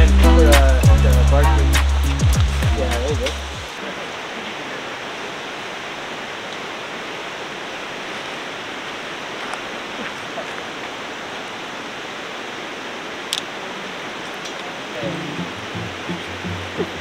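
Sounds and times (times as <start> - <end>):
river rushing: 0.1 - 17.0.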